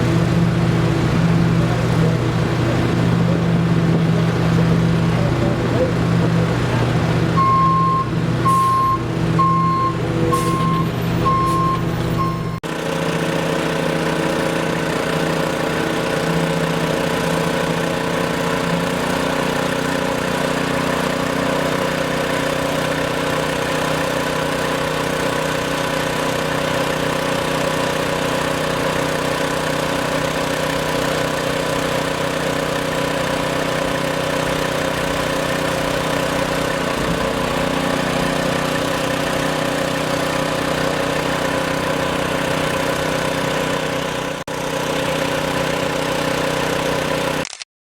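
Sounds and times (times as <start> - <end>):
heavy equipment engine idling: 0.0 - 18.4, 19.0 - 47.2.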